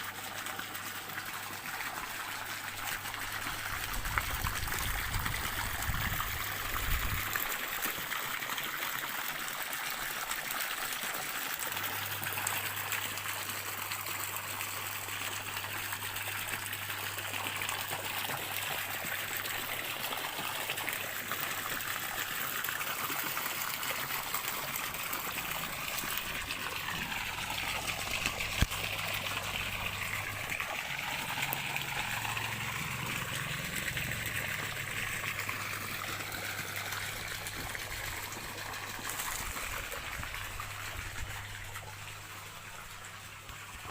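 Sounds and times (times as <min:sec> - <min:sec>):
stream water trickling: 0:00.0 - 0:43.9.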